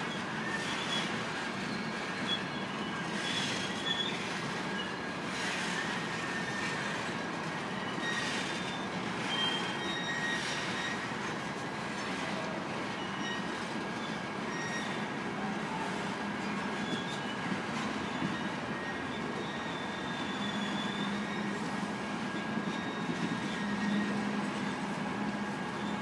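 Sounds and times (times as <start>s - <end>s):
high-pitched wheel squeals: 0.0s - 11.4s, 12.4s - 26.0s
freight train wheels rumbling on rail: 0.0s - 26.0s.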